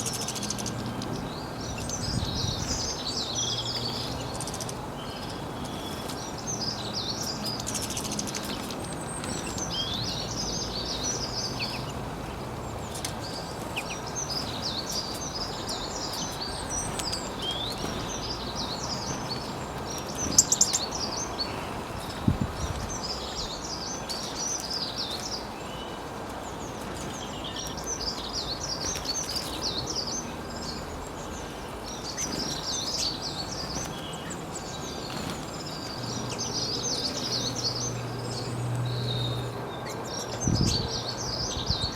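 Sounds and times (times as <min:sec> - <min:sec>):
outdoor background noise: 0:00.0 - 0:41.9
songbird singing: 0:00.0 - 0:41.9.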